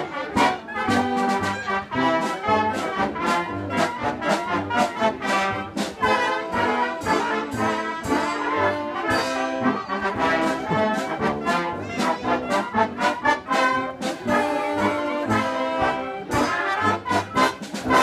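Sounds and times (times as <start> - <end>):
concert band playing: 0.0 - 18.0
trombones and trumpets: 0.0 - 18.0.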